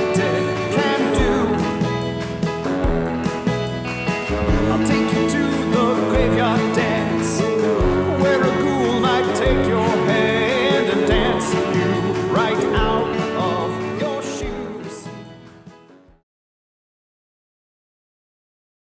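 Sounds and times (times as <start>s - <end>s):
song with singing and beat: 0.0s - 15.4s.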